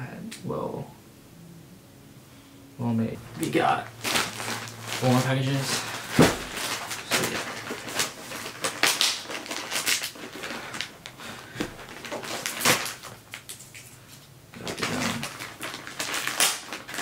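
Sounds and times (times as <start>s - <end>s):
plastic bag crinkling and tearing: 3.3s - 17.0s.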